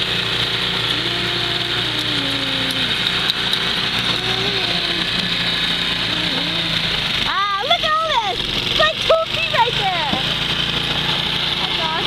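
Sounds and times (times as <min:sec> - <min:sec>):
engine running with hiss: 0:00.0 - 0:12.0.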